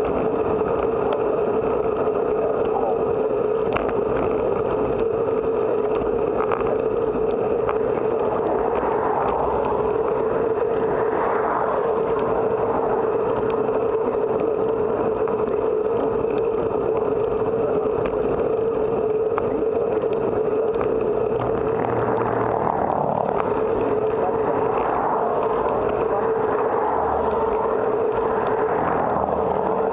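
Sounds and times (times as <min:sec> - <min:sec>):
cars passing: 0:00.0 - 0:29.9
steady whine: 0:00.0 - 0:29.9
wind and tyre rush: 0:00.0 - 0:29.9.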